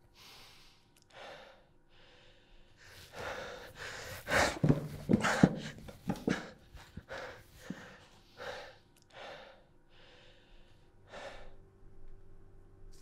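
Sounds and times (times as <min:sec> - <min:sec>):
man gasping for breath: 0:00.1 - 0:11.6.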